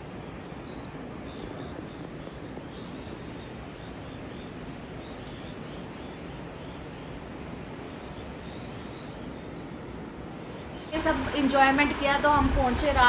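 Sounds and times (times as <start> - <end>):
steady rushing noise: 0.0 - 13.0
birds chirping: 0.1 - 13.0.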